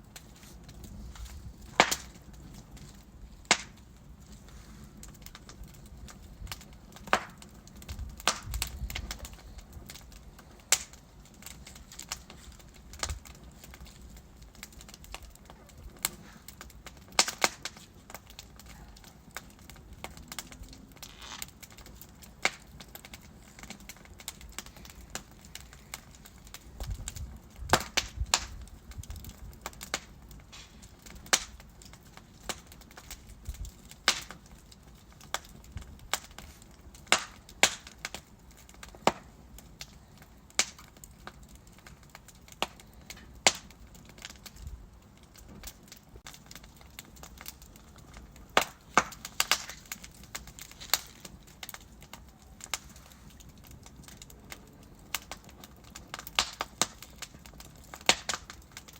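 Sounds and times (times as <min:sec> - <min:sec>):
low rumble of flames: 0:00.0 - 0:58.9
wood logs crackling and popping: 0:00.0 - 0:58.9.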